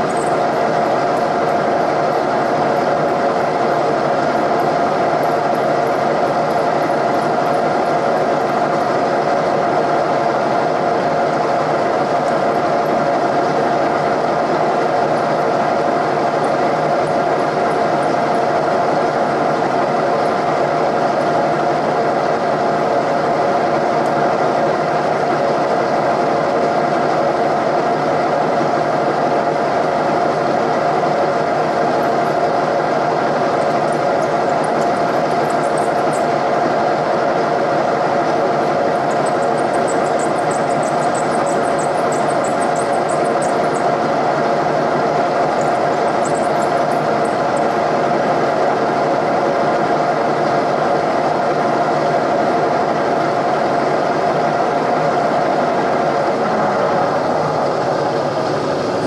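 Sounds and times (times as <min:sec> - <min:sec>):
milling machine drilling with whine: 0:00.0 - 0:24.4, 0:26.6 - 0:53.9.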